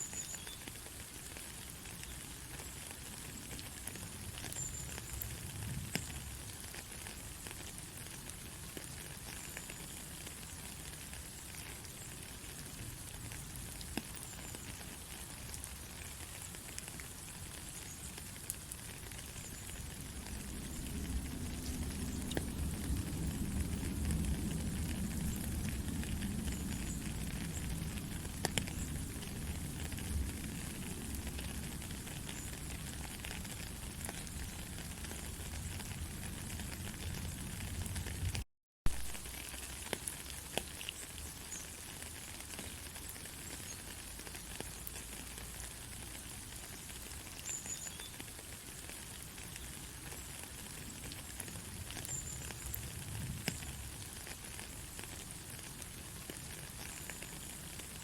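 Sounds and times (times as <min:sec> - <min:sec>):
rain drops ticking: 0:00.0 - 0:58.0
steady rain falling: 0:00.0 - 0:58.0.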